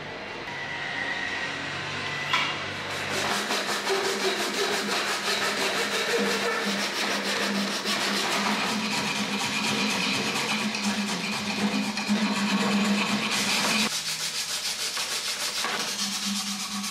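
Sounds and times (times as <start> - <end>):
hand saw cutting wood: 2.8 - 16.9.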